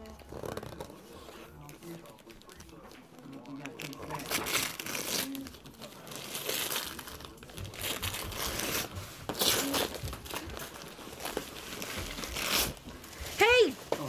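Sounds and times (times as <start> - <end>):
wrapping paper tearing and rustling: 0.2 - 14.0.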